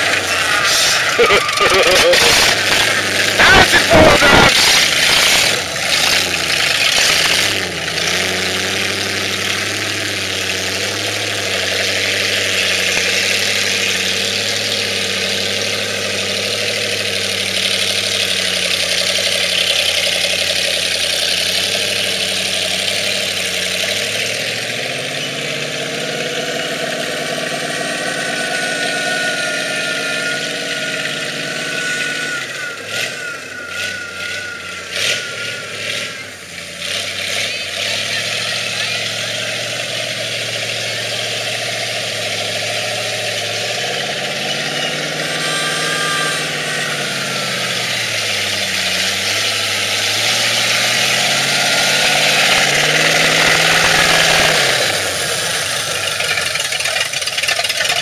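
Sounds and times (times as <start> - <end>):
buggy engine running: 0.0 - 58.0.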